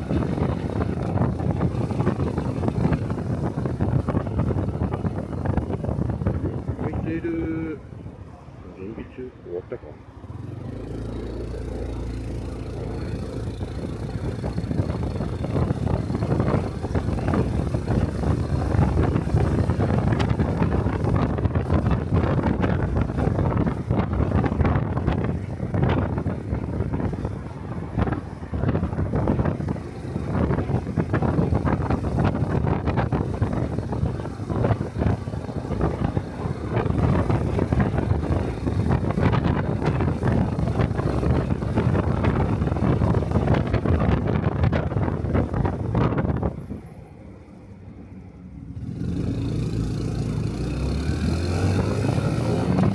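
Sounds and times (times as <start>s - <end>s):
wind noise on microphone: 0.0s - 8.2s, 10.3s - 47.2s, 48.7s - 52.9s.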